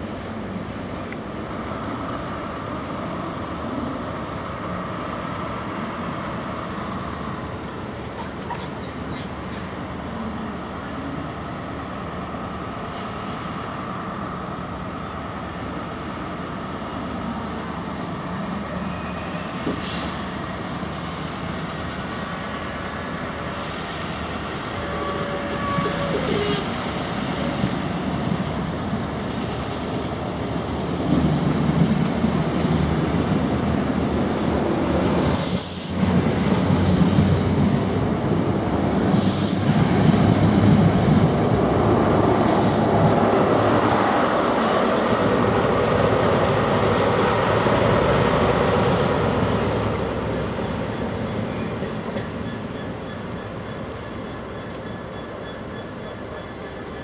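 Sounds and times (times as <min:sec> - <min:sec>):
diesel engine: 0:00.0 - 0:54.8
train coaches rumbling: 0:00.0 - 0:57.0.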